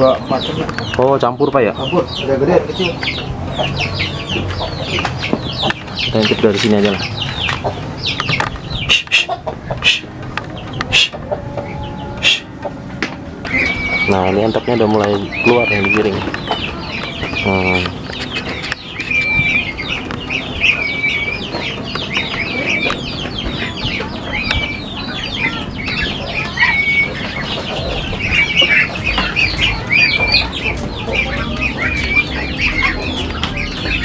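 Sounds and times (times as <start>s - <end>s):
ducklings peeping: 0.0s - 34.0s.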